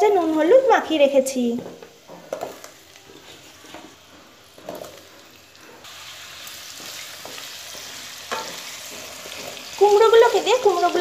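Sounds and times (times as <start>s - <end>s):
frying sizzle: 0.0s - 11.0s.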